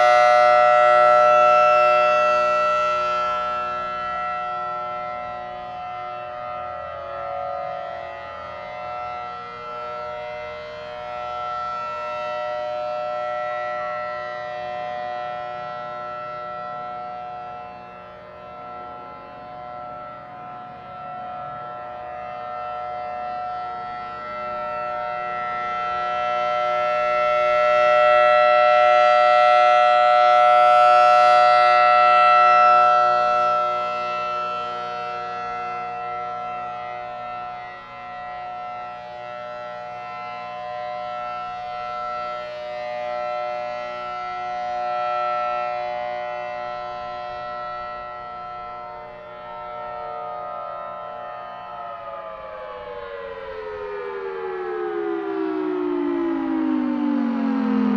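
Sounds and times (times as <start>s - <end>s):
outdoor warning siren: 0.0s - 57.9s.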